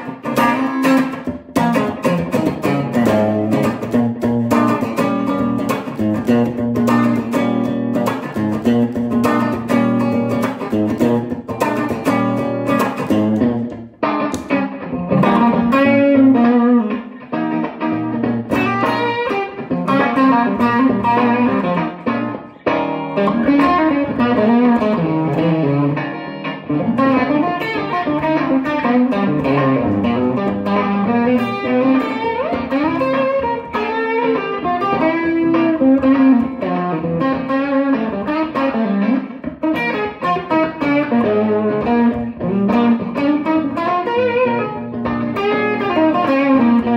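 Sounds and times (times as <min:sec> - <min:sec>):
electric guitar blues solo: 0:00.0 - 0:46.9
looped rhythm guitar chords: 0:00.0 - 0:46.9.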